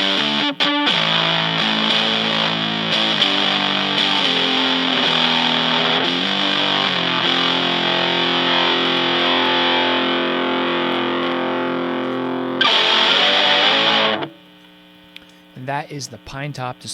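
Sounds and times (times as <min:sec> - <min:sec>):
distorted electric guitar chords: 0:00.0 - 0:14.6.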